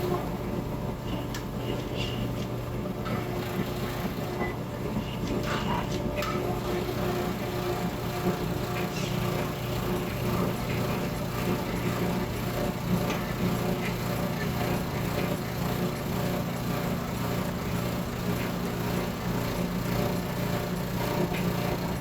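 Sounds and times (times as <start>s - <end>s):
dryer motor and belt humming: 0.0s - 22.0s.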